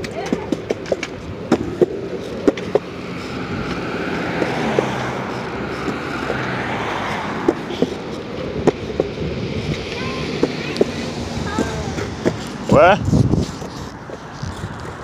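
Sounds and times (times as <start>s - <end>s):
light irregular taps: 0.0s - 12.8s
road traffic rushing: 0.0s - 15.0s.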